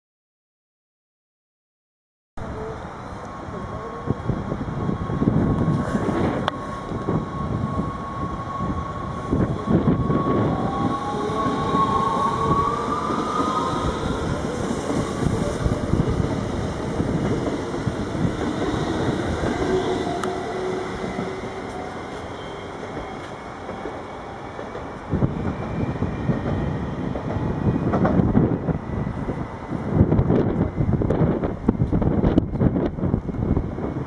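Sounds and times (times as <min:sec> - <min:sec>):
train wheels rumbling on rail: 0:02.4 - 0:34.0.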